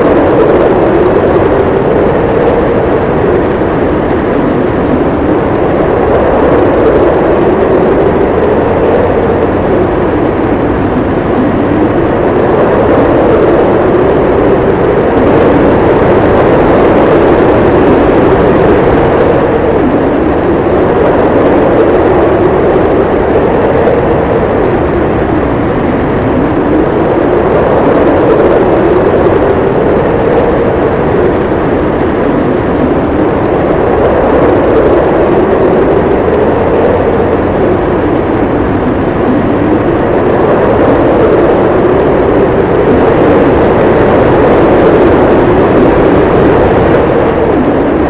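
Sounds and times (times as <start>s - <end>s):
howling snowstorm wind: 0.0s - 48.0s.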